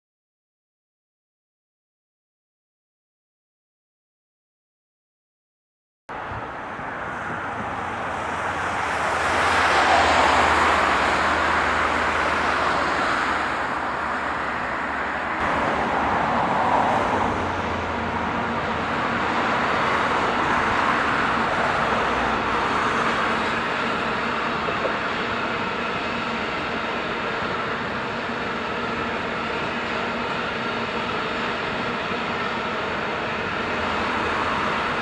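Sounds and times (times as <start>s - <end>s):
train rolling past: 6.1s - 35.0s.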